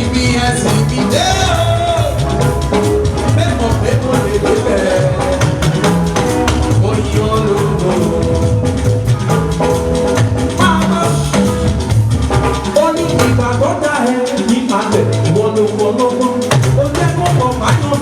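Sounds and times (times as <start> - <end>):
bass line: 0.0 - 18.0
steady drumming: 0.0 - 18.0
upbeat music: 0.0 - 18.0.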